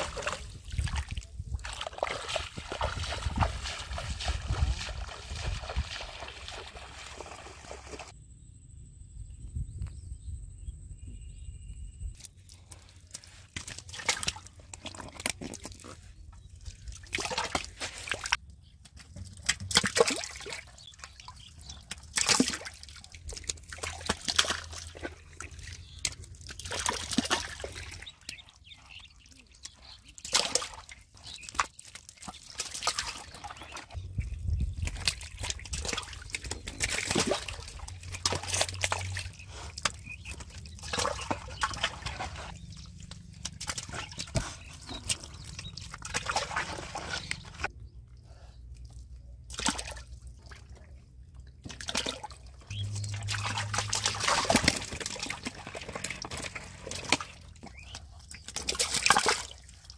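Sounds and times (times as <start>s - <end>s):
fish splashing in shallow water: 0.0s - 8.1s, 12.5s - 16.0s, 16.6s - 18.4s, 19.2s - 47.7s, 48.9s - 59.9s.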